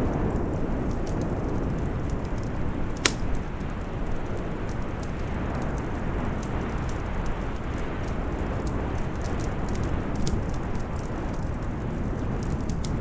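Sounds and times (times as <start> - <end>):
storm wind rushing: 0.0 - 13.0
wood fire crackling: 0.0 - 13.0.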